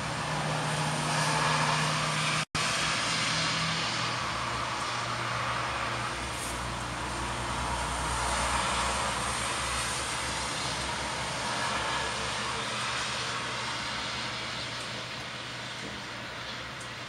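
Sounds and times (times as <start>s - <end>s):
aircraft droning in flight: 0.0s - 17.0s.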